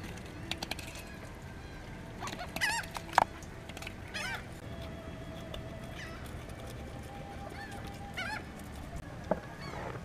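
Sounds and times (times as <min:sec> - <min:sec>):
gulls calling: 0:00.8 - 0:10.0.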